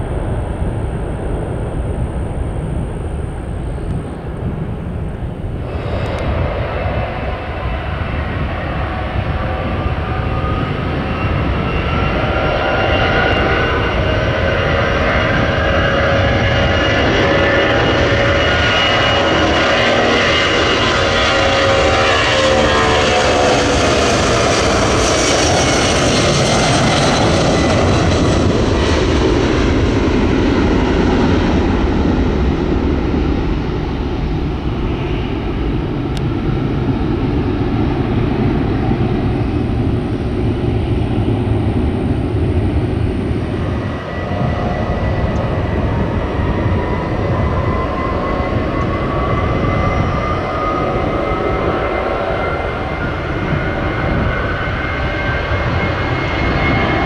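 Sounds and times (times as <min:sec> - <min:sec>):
jet airliner engines whining: 0:00.0 - 0:57.0
low jet rumble: 0:00.0 - 0:57.0.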